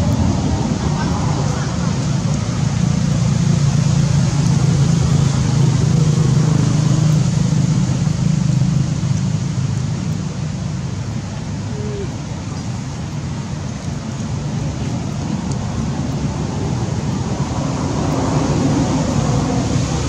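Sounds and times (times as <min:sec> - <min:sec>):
low engine hum: 0:00.0 - 0:20.0
steady background rush: 0:00.0 - 0:20.0.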